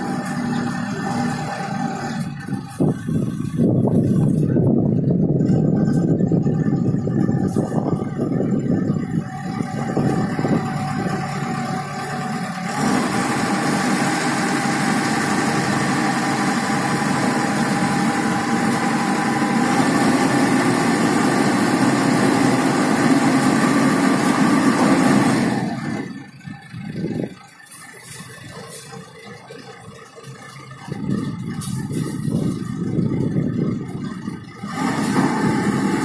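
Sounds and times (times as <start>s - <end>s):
concrete mixer engine running: 0.0s - 36.0s
steady whine: 0.0s - 36.0s.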